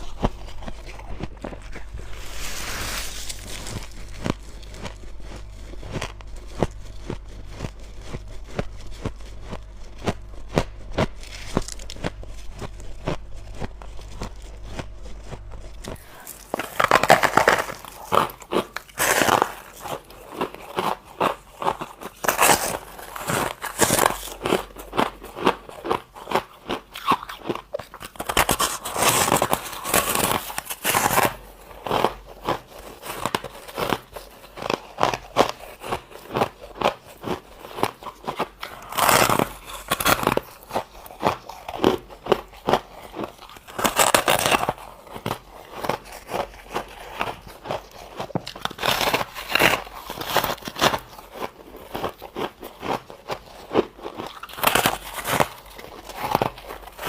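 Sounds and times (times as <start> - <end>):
person chewing crunchy ice: 0.0 - 57.0.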